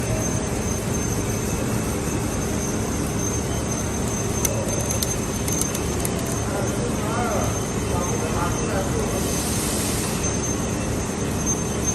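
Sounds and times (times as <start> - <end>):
extrusion machinery running: 0.0 - 11.9
high machine whine: 0.0 - 11.9.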